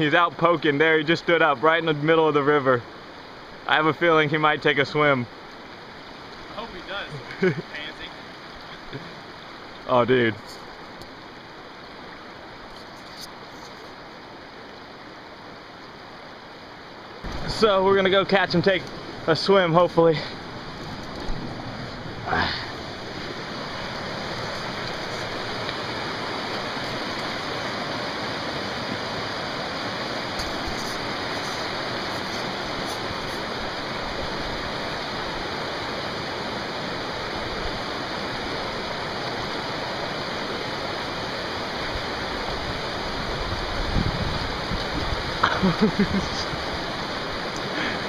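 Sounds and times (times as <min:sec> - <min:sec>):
river water rushing over rocks: 0:00.0 - 0:48.0.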